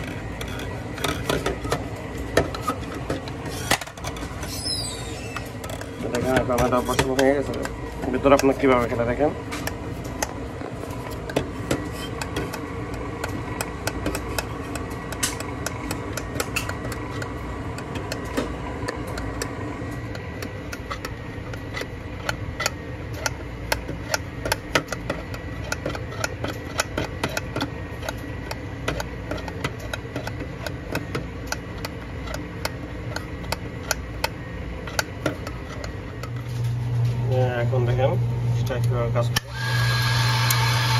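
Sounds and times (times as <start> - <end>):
sharp clicks and rattles: 0.0 - 4.6, 5.3 - 36.8
grinder motor humming: 0.0 - 40.9.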